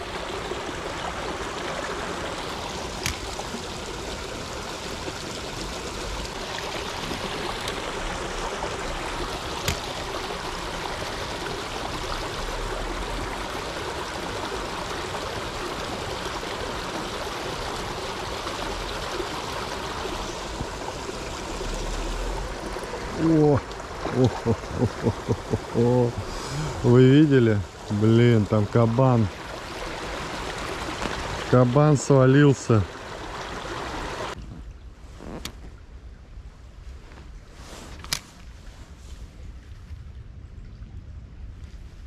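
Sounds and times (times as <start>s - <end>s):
river water rushing and trickling: 0.0s - 42.0s.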